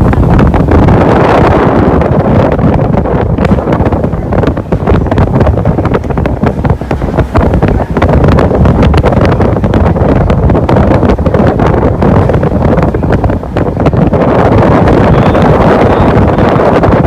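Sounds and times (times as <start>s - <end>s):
boat running noise: 0.0s - 17.0s
wind buffeting microphone: 0.0s - 17.0s.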